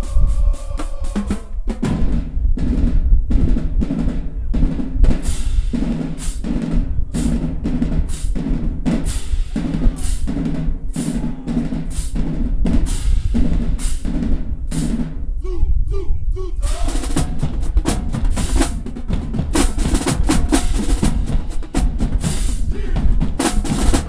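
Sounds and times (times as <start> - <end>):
snare drums: 0.0 - 15.3, 16.6 - 24.0
bass drums: 0.0 - 15.4, 16.6 - 24.0.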